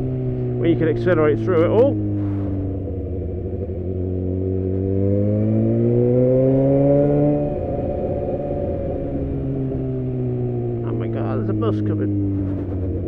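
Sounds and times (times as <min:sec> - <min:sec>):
exhaust echoing off buildings: 0:00.0 - 0:13.0
motorcycle engine accelerating: 0:00.0 - 0:13.0.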